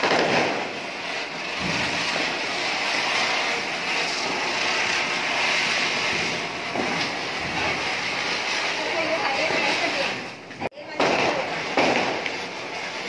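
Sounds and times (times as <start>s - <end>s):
firework spraying sparks hissing: 0.0s - 13.0s.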